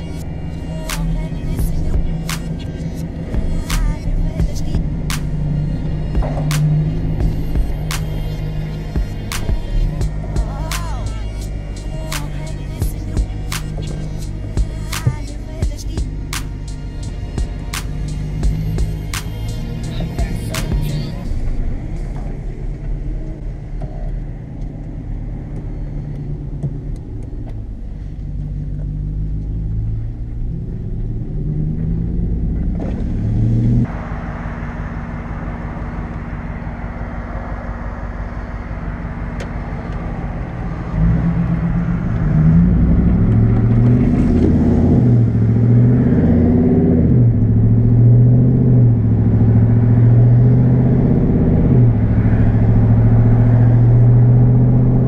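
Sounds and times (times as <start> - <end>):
pickup truck engine driving: 0.0 - 55.0.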